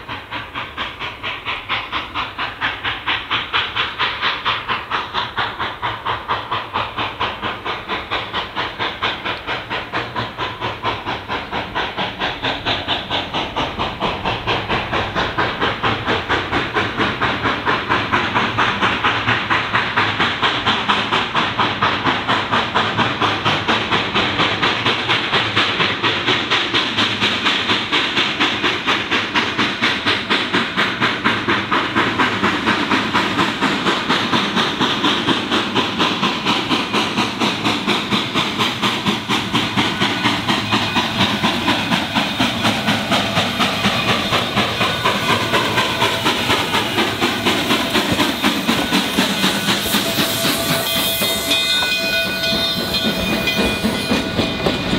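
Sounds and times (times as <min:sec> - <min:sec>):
steam hiss: 0:00.0 - 0:54.9
steam locomotive chuffing: 0:00.0 - 0:54.9.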